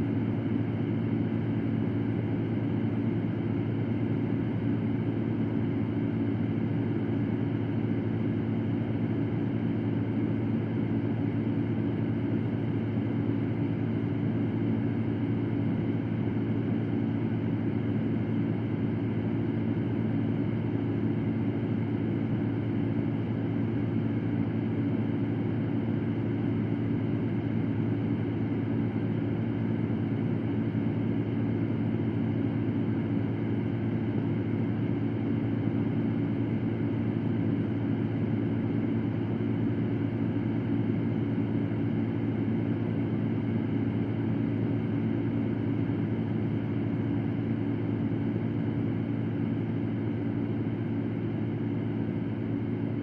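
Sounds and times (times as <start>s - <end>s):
electric fan running: 0.0s - 53.0s.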